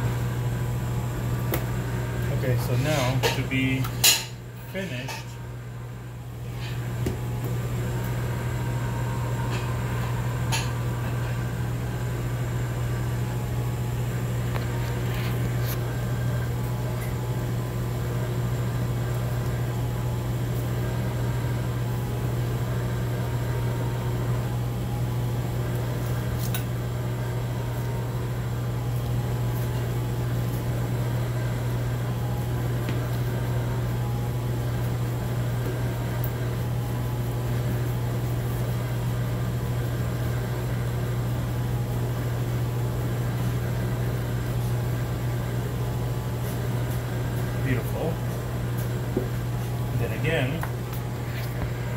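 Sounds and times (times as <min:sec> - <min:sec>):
kitchen machinery humming: 0:00.0 - 0:51.9.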